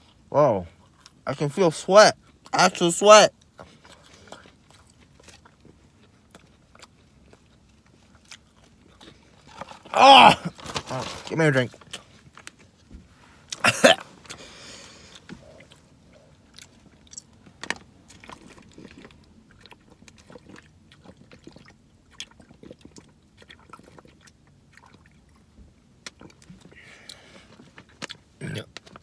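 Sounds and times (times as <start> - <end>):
chewing and swallowing: 0.0 - 1.2, 3.3 - 11.1, 11.7 - 29.0.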